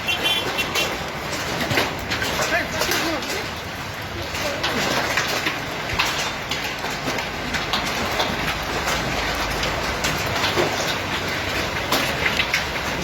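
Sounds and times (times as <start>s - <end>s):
hailstones clicking on hard surfaces: 0.0s - 13.0s.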